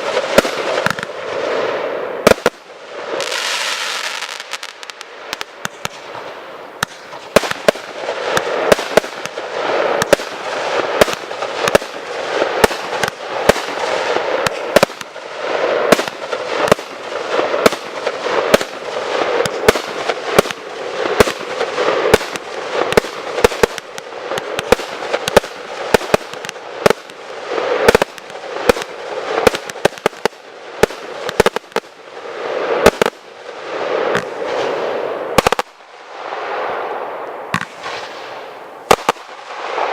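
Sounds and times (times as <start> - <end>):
firework bangs: 0.0 - 39.9
firework crackling hiss: 0.0 - 39.9.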